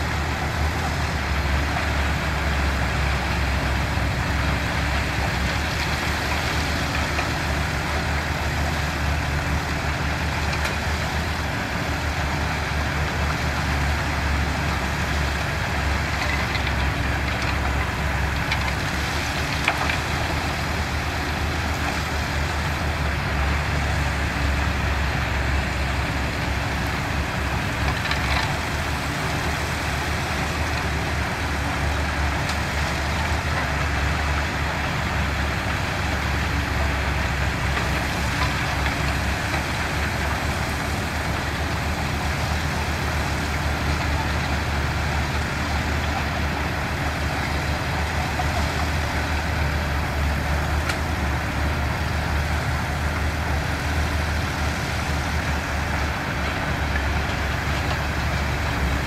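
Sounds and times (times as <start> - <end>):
diesel machinery running: 0.0 - 59.0.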